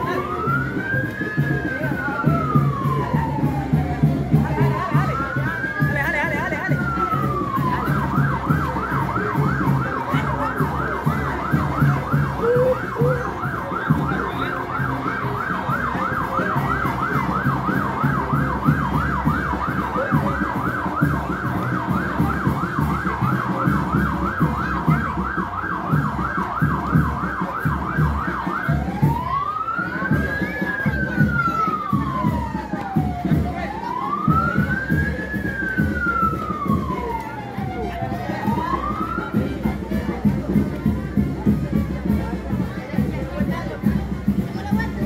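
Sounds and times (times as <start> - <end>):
siren yelping and wailing: 0.0 - 40.1.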